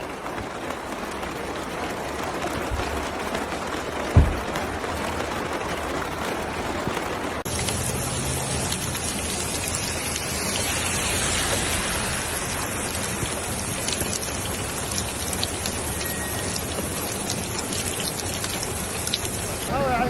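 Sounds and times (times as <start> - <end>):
heavy rain hissing: 0.0 - 20.0
raindrops ticking on surfaces: 0.0 - 20.0.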